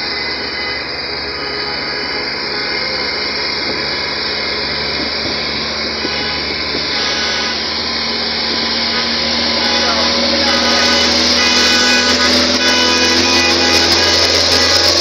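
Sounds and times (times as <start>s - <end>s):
engine humming: 0.0s - 15.0s
wind and road noise: 0.0s - 15.0s.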